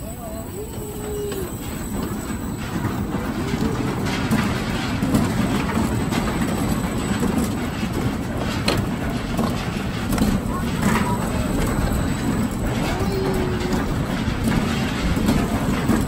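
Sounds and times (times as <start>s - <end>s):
amusement ride cars clattering: 0.0s - 16.0s.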